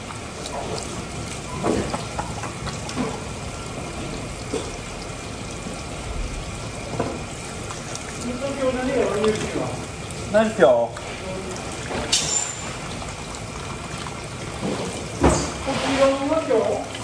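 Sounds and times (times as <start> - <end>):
water running: 0.0 - 17.0.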